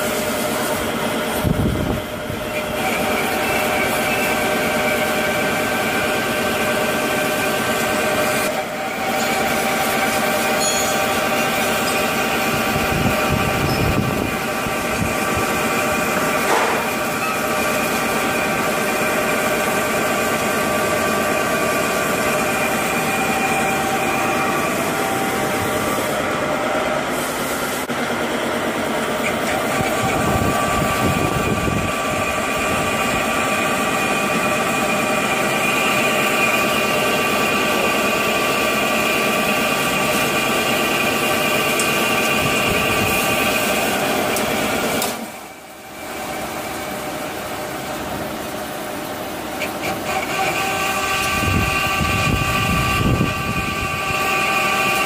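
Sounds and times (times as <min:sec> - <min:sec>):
lathe cutting metal: 0:00.0 - 0:55.0.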